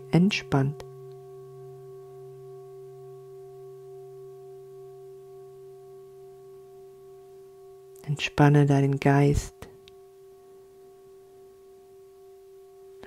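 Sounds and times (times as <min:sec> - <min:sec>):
singing bowl drone: 0:00.0 - 0:13.0.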